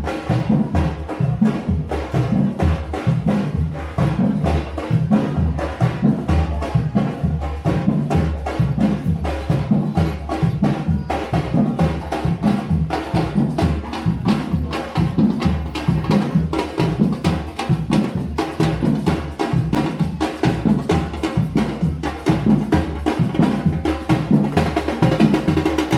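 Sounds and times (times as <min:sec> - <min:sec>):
drums deep beats: 0:00.0 - 0:25.9.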